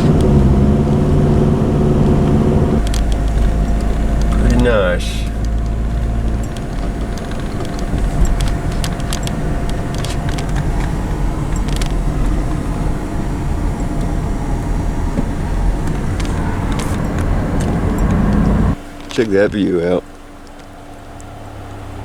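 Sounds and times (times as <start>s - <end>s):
car engine and road rumble: 0.0s - 22.0s
small clicks and rattles: 2.0s - 21.4s.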